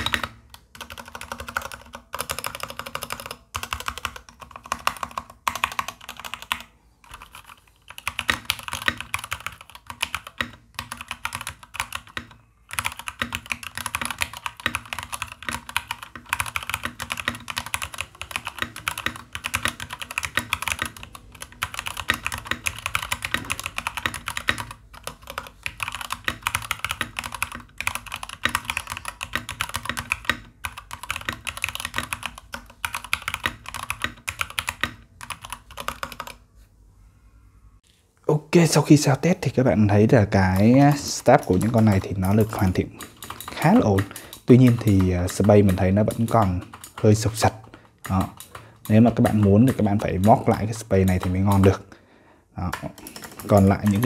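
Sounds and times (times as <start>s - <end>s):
fast typing on mechanical keyboard: 0.0s - 36.4s, 40.4s - 51.8s, 52.6s - 54.0s.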